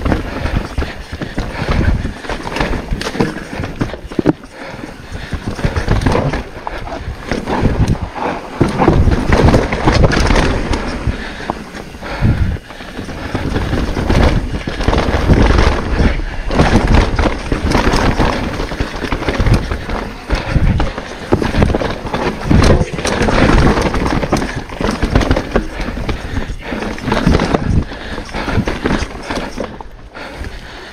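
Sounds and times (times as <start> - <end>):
bike thumps and rattles: 0.0 - 30.6
bike tyres rumbling over dirt: 0.0 - 30.9.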